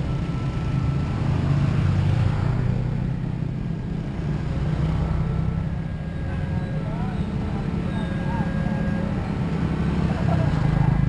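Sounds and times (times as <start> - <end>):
road traffic: 0.0 - 11.0
small motorcycle engines: 0.0 - 11.0.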